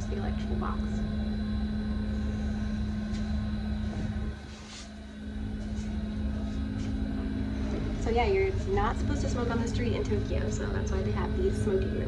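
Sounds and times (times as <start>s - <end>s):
air filtration unit humming: 0.0s - 12.0s.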